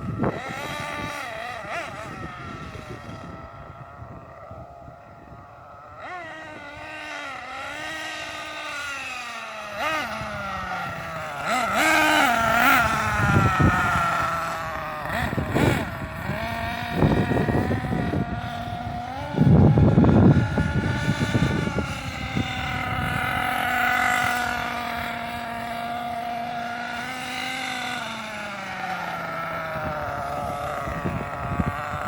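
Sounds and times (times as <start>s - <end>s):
rc car motor whining: 0.0s - 32.0s
wind buffeting microphone: 0.0s - 32.0s.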